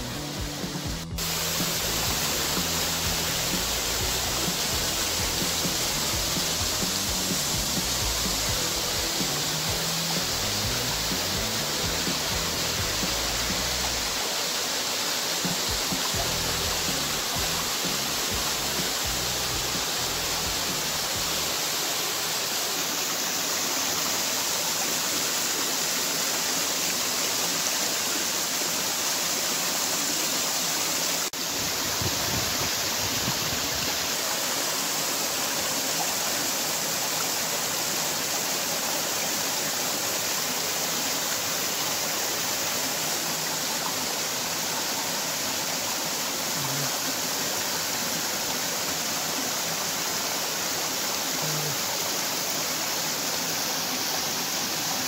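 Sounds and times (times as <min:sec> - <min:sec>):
waterfall splashing into pool: 0:00.0 - 0:55.0.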